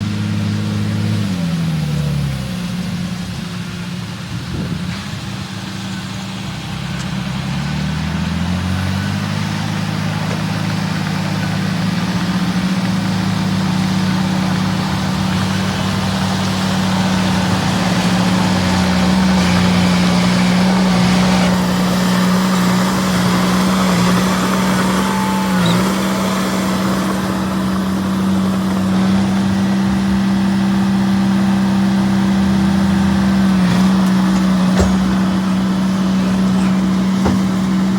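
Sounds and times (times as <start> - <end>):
heavy diesel engine revving: 0.0 - 37.9.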